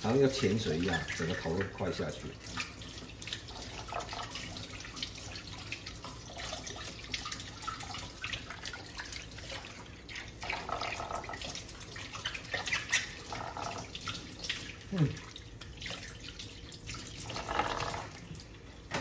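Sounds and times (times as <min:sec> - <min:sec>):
light water splashing and dripping: 0:00.0 - 0:19.0.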